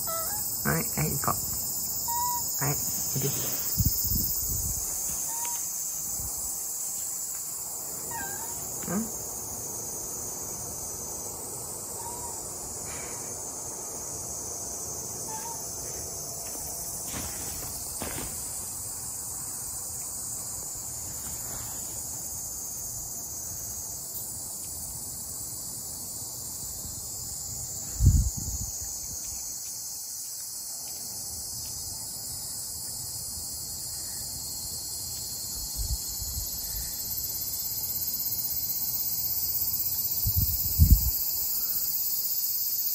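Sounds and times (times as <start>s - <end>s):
insects chorus: 0.0s - 42.9s.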